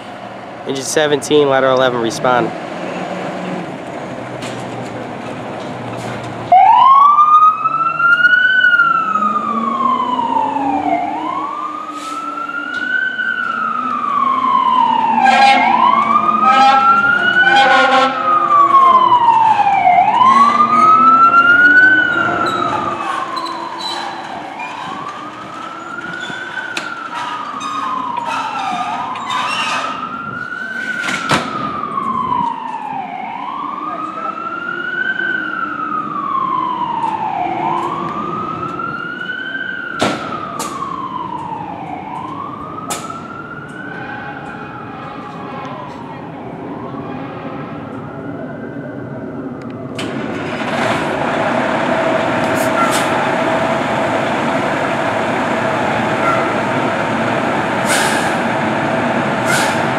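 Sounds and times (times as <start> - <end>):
fire engine siren wailing: 0.0 - 59.9.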